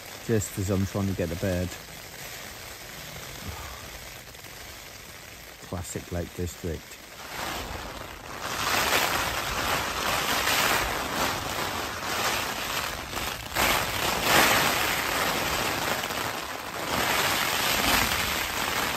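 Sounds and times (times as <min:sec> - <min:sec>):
rain pattering on tent fabric: 0:00.0 - 0:18.9.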